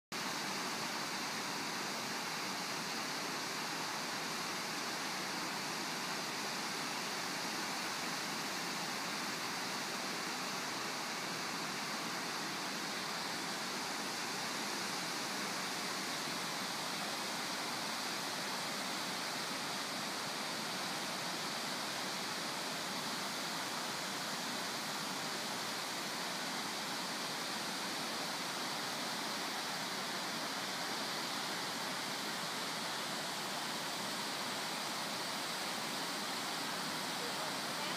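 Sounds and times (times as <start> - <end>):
river water rushing through gates: 0.2 - 37.9.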